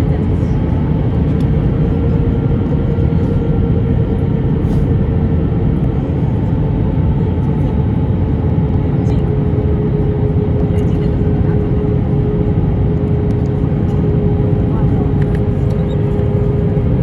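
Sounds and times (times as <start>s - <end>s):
aircraft engines rumbling: 0.0s - 17.0s
constant hum: 0.0s - 17.0s.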